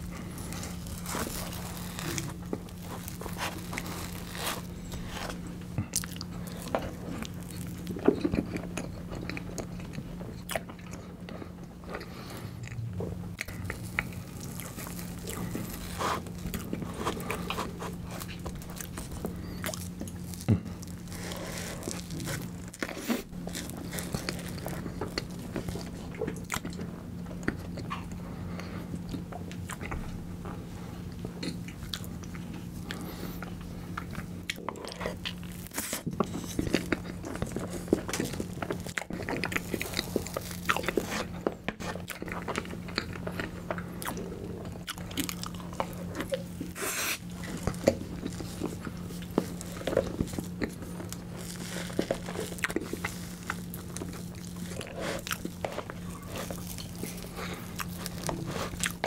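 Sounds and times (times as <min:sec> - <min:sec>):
chewing and wet mouth sounds: 0:00.0 - 0:59.0
faint hum: 0:00.0 - 0:59.0.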